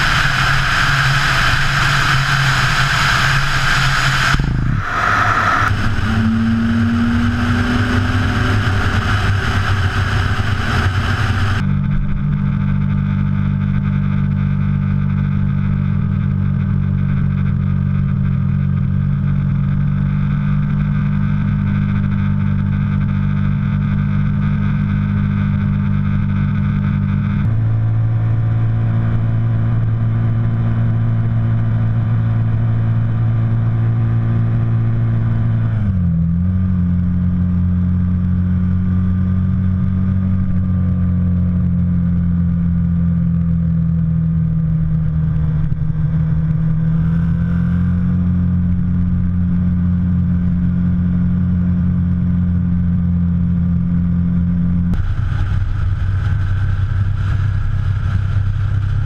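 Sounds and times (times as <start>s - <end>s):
car engine: 0.0s - 59.0s
motorcycle engine running: 0.0s - 59.0s
road noise: 0.0s - 59.0s.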